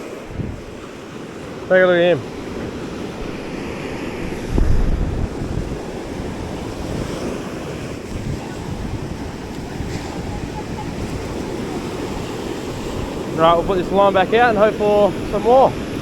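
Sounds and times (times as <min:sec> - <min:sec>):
surf washing on a beach: 0:00.0 - 0:16.0
wind buffeting microphone: 0:00.0 - 0:16.0.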